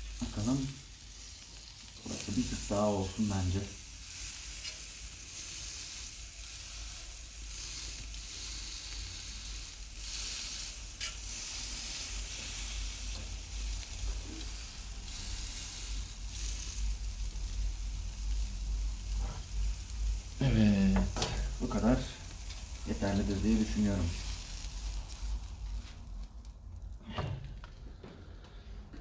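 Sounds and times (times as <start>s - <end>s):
steak sizzling on grill: 0.0s - 26.9s.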